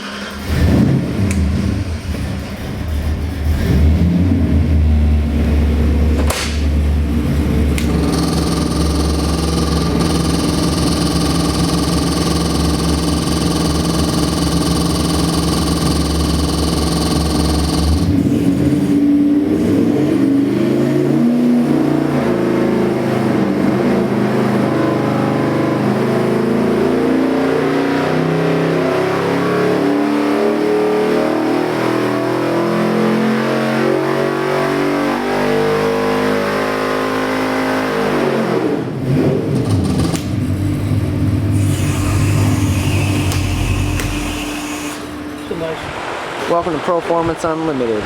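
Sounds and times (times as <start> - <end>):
engine revving and idling: 0.0 - 45.1.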